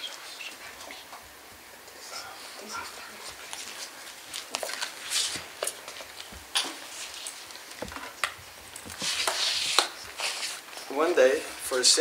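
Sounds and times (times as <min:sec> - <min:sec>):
hiss-like rustle: 0:00.0 - 0:07.7, 0:08.8 - 0:12.0.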